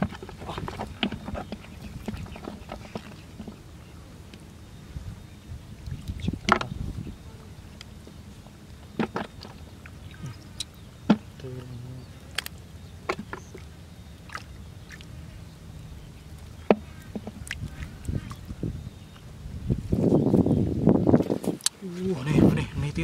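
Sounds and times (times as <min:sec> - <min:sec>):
low steady rumble: 0:00.0 - 0:21.2.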